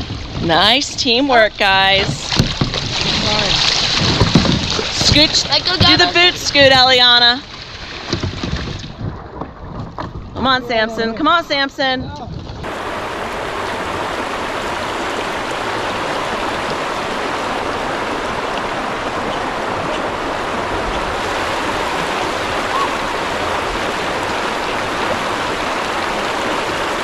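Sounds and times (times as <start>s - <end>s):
creek rushing over rocks: 0.0s - 9.2s, 12.6s - 27.0s.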